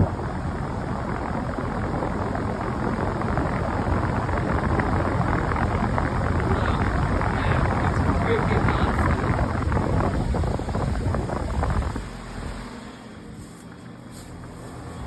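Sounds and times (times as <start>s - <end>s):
heat pump fan blowing air: 0.0s - 15.0s.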